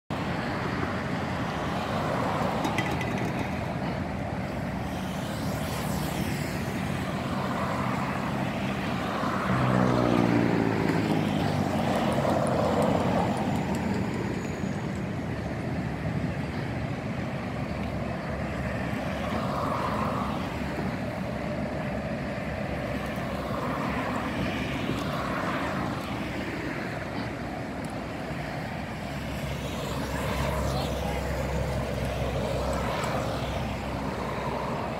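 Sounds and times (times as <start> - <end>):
motor traffic: 0.1 - 34.9
vehicle passing by: 1.4 - 15.3, 17.5 - 34.9.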